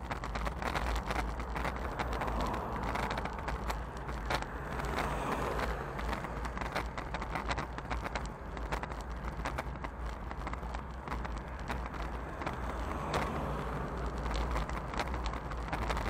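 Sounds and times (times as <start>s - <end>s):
clicks and rattles from road: 0.0s - 16.0s
wind rushing over camera: 0.0s - 16.0s.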